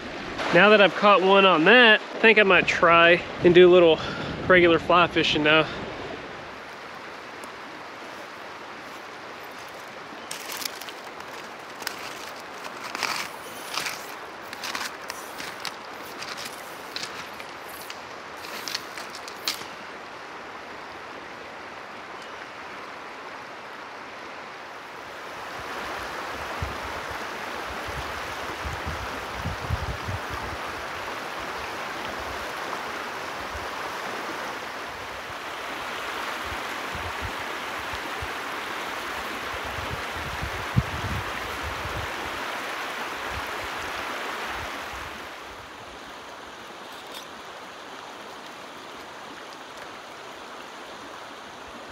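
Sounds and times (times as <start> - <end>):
river rushing over stones: 0.0 - 51.9.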